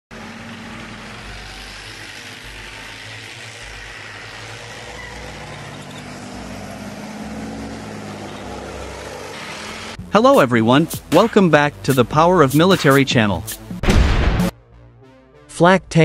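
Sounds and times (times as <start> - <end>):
tank tracks over ground: 0.1 - 13.7
tank engine running: 0.1 - 14.5.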